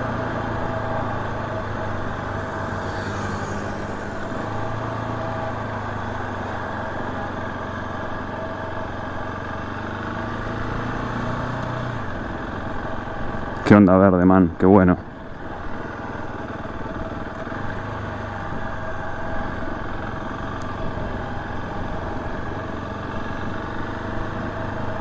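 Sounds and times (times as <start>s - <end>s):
motorcycle engine idling: 0.0s - 10.8s, 12.0s - 25.0s.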